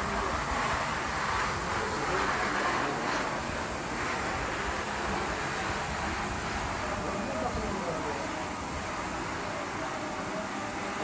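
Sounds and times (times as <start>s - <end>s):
floor scrubber running: 0.0s - 11.0s.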